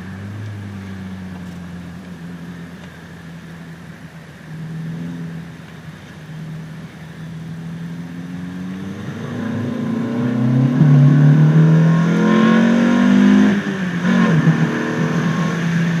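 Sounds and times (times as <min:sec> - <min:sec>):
car engine revving with intake: 0:00.0 - 0:16.0.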